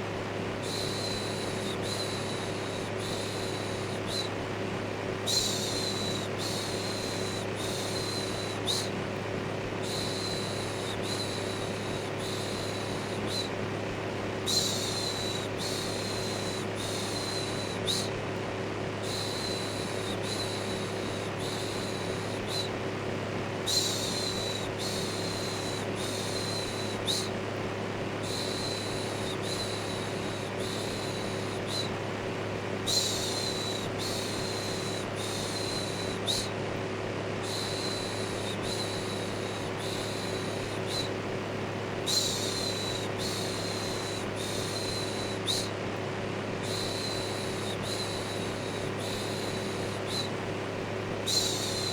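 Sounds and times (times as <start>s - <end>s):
electric fan running: 0.0s - 51.9s.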